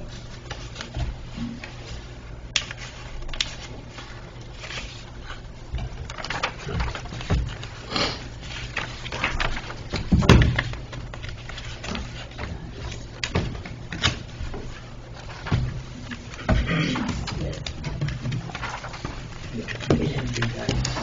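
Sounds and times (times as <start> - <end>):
paper rustling: 0.0 - 21.0.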